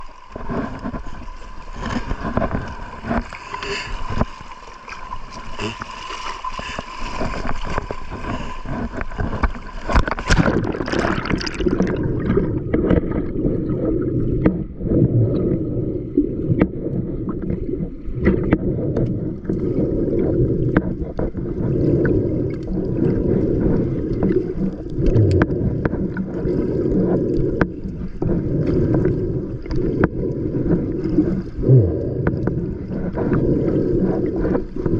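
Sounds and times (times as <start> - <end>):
muffled water churning: 0.0 - 34.9
seawater splashing and gurgling: 0.0 - 34.9.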